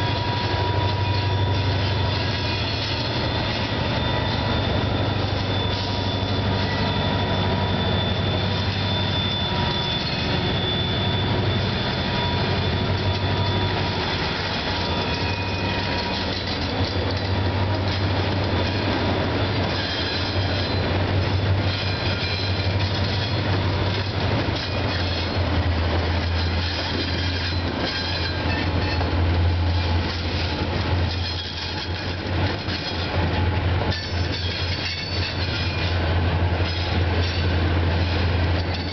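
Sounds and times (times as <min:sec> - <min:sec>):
diesel locomotive engine hum: 0:00.0 - 0:38.9
steel wheels squealing: 0:00.0 - 0:38.9
train wheels rumbling on rails: 0:00.0 - 0:38.9.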